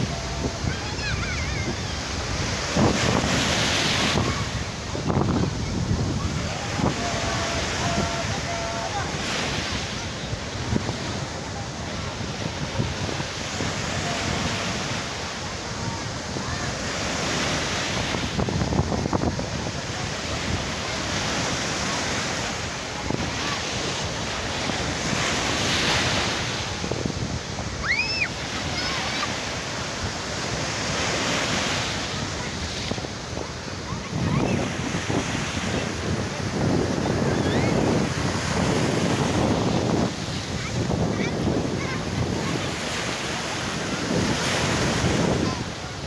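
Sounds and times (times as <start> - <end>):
waves washing on shore: 0.0 - 46.0
wind buffeting microphone: 0.0 - 46.0.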